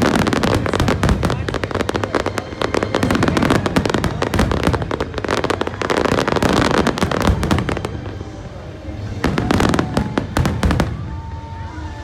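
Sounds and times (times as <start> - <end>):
fireworks crackling bangs: 0.0 - 11.4.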